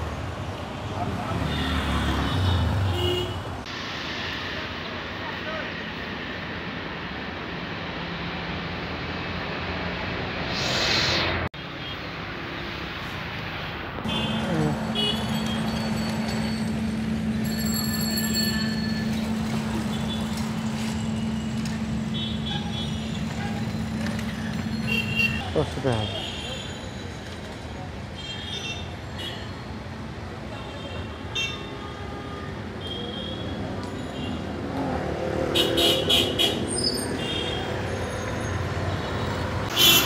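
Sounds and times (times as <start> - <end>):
vehicles passing: 0.0 - 28.2, 32.4 - 40.0
street traffic hum: 0.0 - 40.0.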